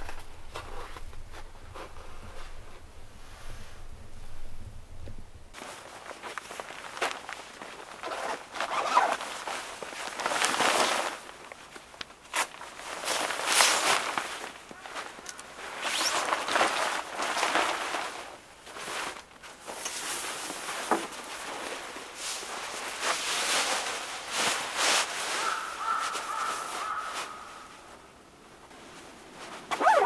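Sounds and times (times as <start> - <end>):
nylon jackets rustling: 5.5 - 30.0.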